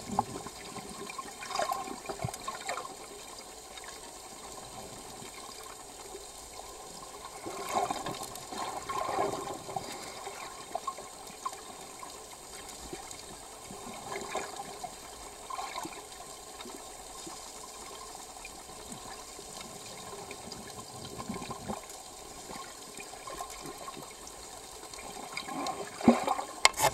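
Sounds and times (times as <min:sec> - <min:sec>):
underwater sloshing and bubbling: 0:00.0 - 0:26.9.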